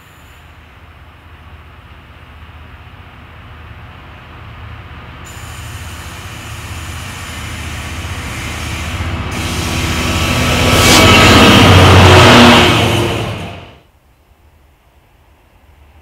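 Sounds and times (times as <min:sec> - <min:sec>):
train wheel noise: 0:00.0 - 0:13.8
diesel locomotive engine: 0:00.0 - 0:13.9.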